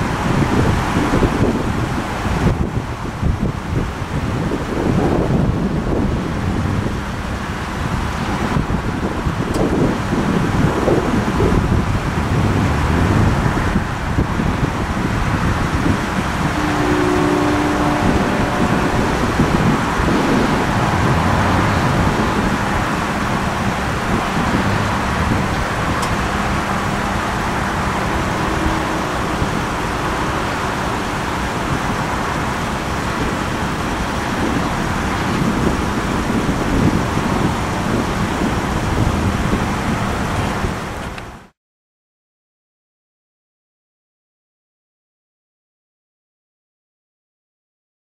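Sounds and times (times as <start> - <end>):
train rumbling past on rails: 0.0 - 41.5.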